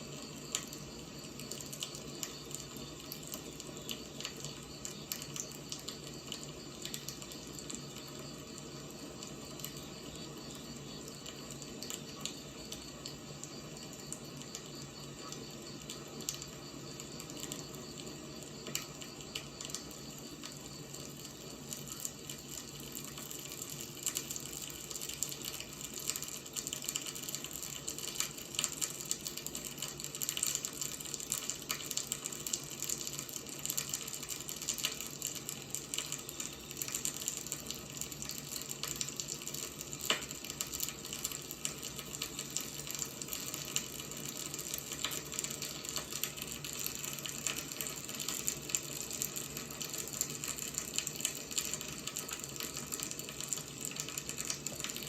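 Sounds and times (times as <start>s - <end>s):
fire crackles and pops: 0.0s - 55.0s
firewood burning hiss: 0.0s - 55.0s.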